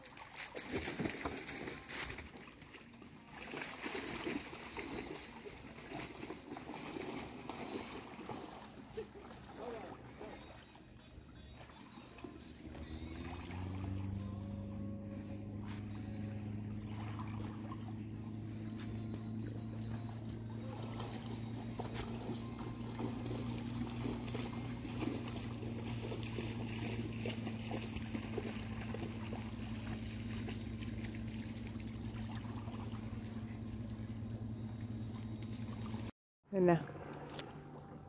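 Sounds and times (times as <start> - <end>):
small waves lapping at shore: 0.0 - 38.0
low motor hum: 0.1 - 38.0.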